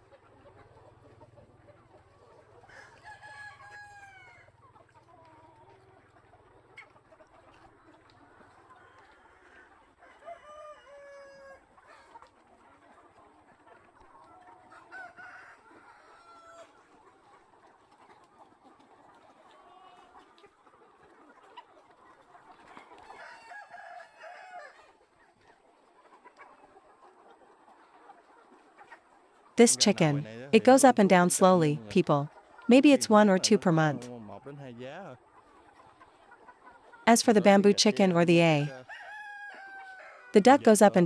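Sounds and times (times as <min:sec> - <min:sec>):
chickens clucking: 0:00.0 - 0:34.6, 0:35.2 - 0:41.0.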